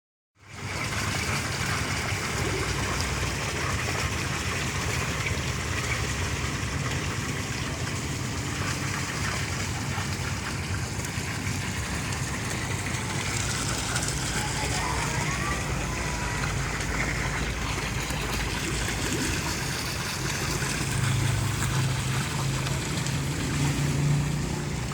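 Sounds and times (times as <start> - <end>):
water splashing into pond: 0.4 - 24.9.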